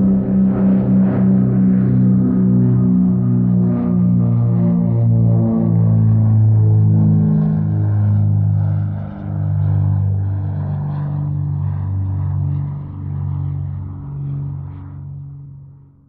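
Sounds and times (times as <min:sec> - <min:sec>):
propeller airplane engine droning: 0:00.0 - 0:16.0.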